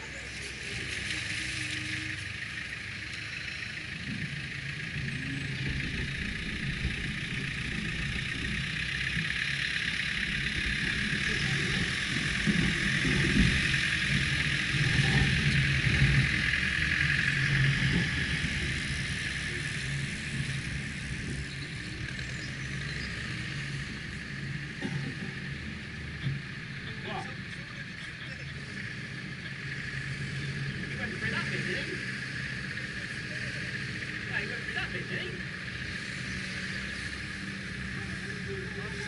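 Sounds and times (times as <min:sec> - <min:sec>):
car engine rumbling: 0:00.0 - 0:39.0
hiss of driving through mud: 0:00.0 - 0:39.0.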